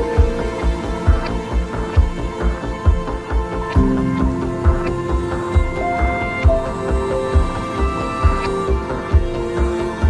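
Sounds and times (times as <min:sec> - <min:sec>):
sustained instrumental notes: 0:00.0 - 0:10.0.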